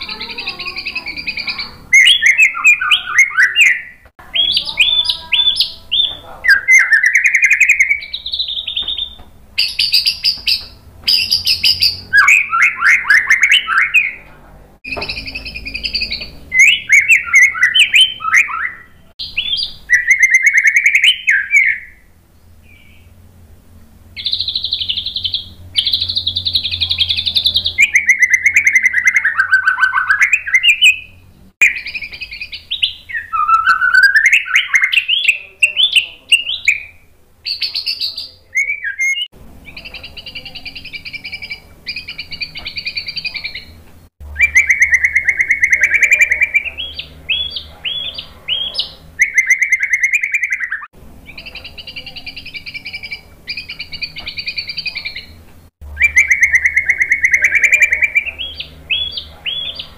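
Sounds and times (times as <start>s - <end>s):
bird singing whistles and trills: 0.0s - 14.3s, 14.9s - 23.2s, 24.2s - 59.9s.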